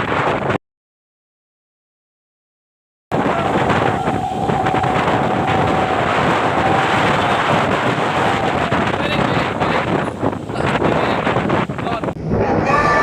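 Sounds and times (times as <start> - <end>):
wind buffeting microphone: 0.0 - 0.6, 3.1 - 13.0.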